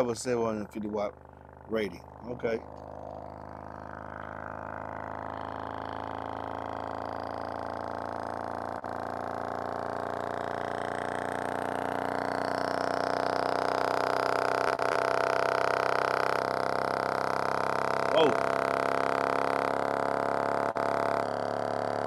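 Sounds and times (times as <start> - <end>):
subwoofer bass test tone: 0.0 - 19.9.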